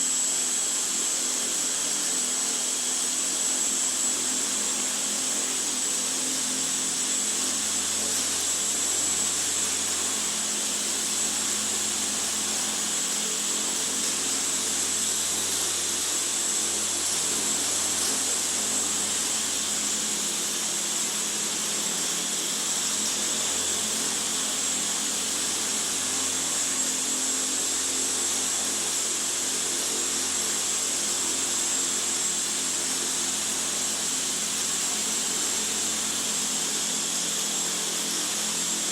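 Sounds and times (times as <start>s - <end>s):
rc helicopter whine: 0.0s - 38.9s.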